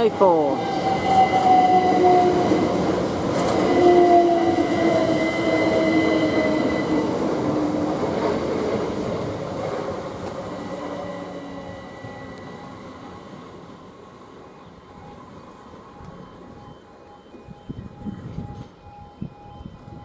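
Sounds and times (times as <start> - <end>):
electric train motor whine: 0.6 - 7.9, 10.2 - 20.0.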